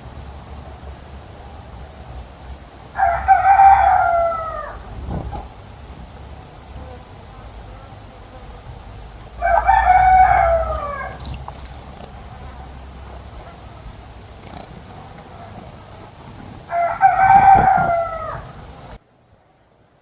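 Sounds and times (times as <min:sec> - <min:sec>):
loud bird calls: 0:02.8 - 0:19.0.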